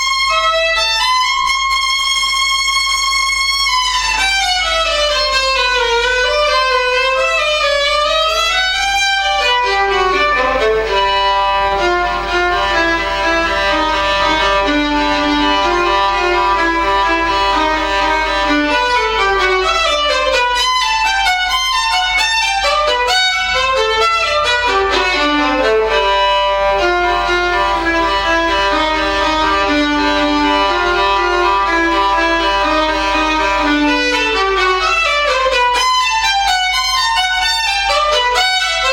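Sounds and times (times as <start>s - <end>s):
violin playing fast classical passage: 0.0s - 38.9s.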